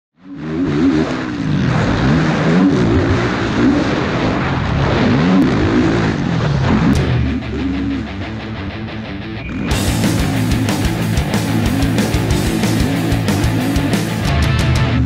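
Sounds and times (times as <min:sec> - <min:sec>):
quad engine revving: 0:00.2 - 0:15.0.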